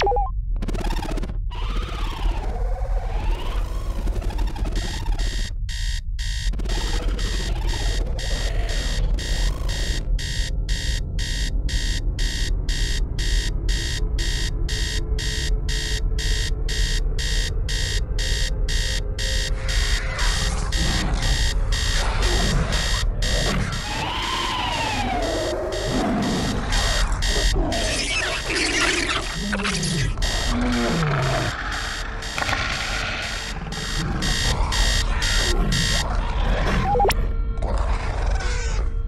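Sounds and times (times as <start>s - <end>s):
rapid electronic beeping: 0.0s - 1.4s, 3.7s - 36.2s, 36.8s - 37.2s.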